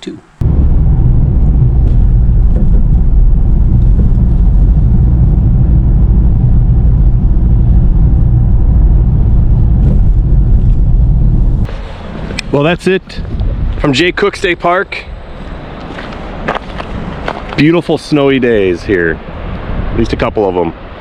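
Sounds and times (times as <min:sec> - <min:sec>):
car engine and road rumble: 0:00.2 - 0:21.0.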